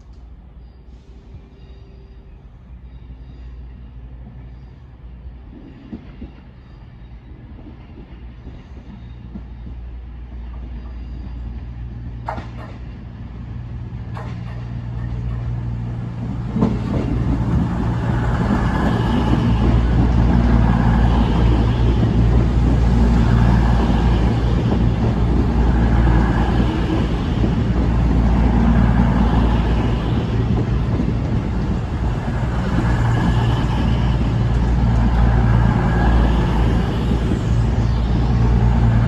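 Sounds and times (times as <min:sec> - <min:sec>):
train approaching drone: 0:00.0 - 0:39.0.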